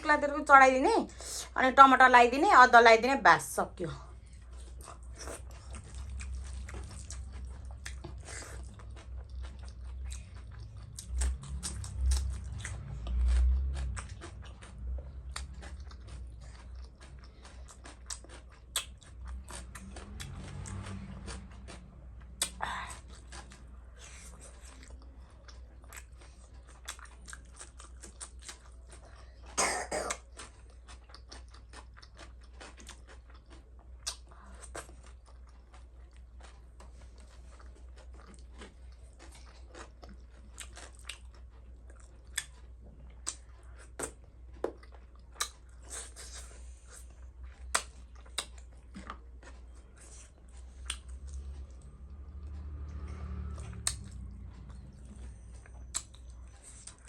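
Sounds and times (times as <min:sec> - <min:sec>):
steady low hum: 0:00.0 - 0:57.0
person chewing and eating: 0:03.8 - 0:57.0.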